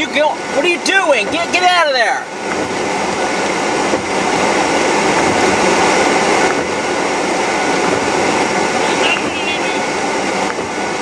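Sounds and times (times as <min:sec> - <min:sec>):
heavy rain: 0:00.0 - 0:11.0
wind: 0:00.0 - 0:11.0.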